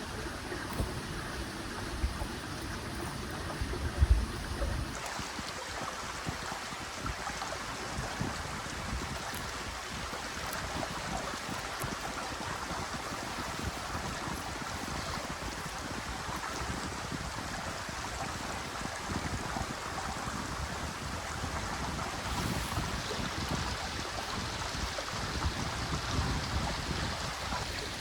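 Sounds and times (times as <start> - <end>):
stream rushing and babbling: 0.0 - 28.0.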